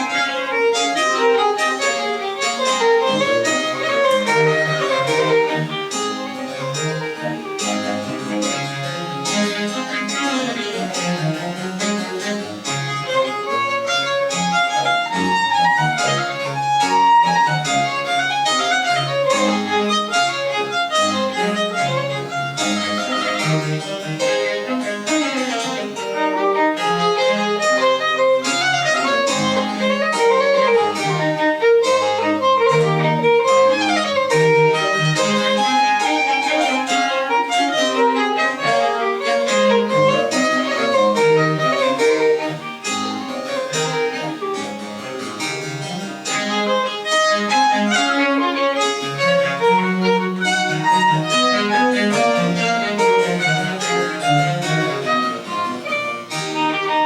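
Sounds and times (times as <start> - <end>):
baroque chamber music: 0.0 - 57.0
violin running passages: 0.0 - 57.0.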